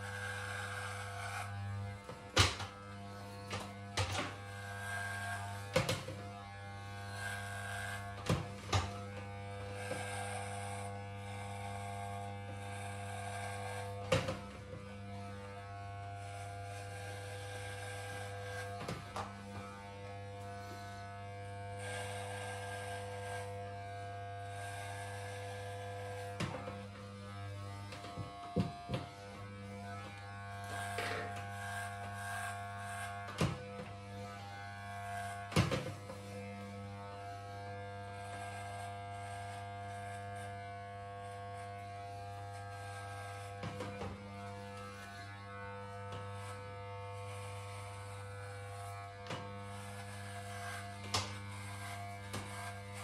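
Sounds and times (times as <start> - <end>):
electric hair clipper buzzing: 0.0 - 53.0.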